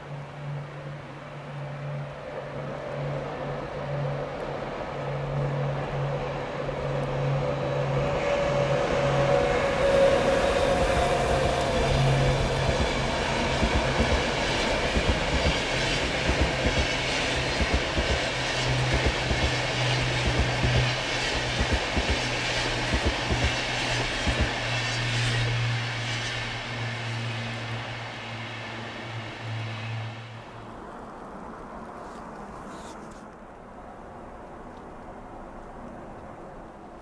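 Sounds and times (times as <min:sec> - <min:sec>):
electric train low hum: 0:00.0 - 0:37.0.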